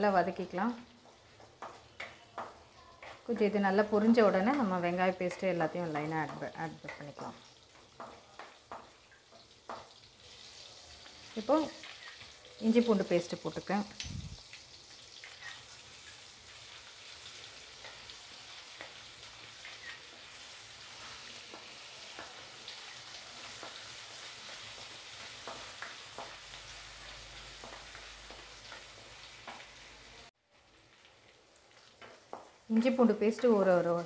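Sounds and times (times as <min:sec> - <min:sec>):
paste sizzling in oil: 0:00.0 - 0:34.0.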